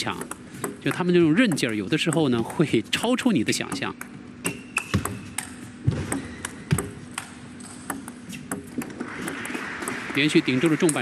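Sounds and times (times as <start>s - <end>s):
table tennis ball clicking: 0.0s - 11.0s.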